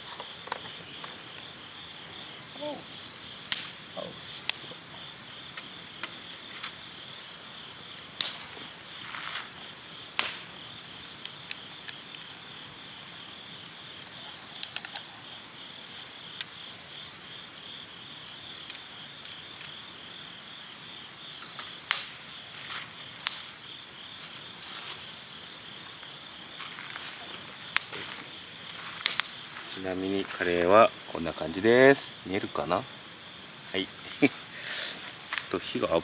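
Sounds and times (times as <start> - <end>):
campfire crackling: 0.0 - 36.0
insects chirping in high trill: 0.0 - 36.0.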